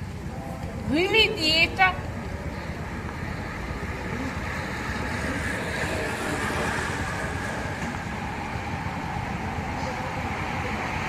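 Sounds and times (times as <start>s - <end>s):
racing bicycles passing: 0.0s - 11.0s.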